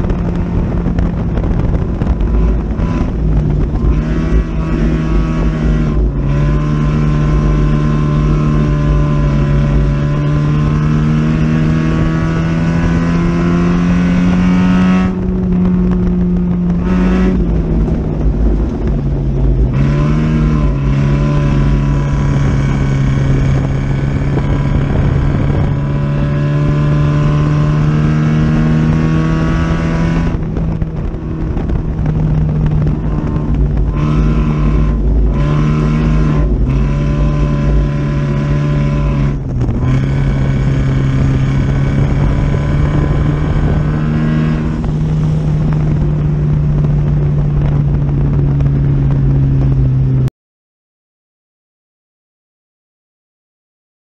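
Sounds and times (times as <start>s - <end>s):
race car engine at high revs: 0.0s - 50.3s.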